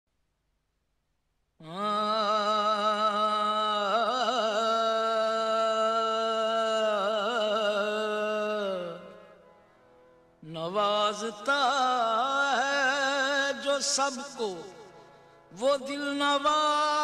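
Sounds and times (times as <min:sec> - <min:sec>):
person singing long wordless note: 0:01.6 - 0:09.4, 0:10.4 - 0:17.0.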